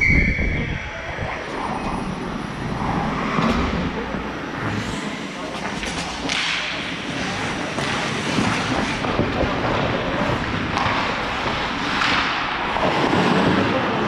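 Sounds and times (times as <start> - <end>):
skates scraping on ice: 2.6 - 14.0.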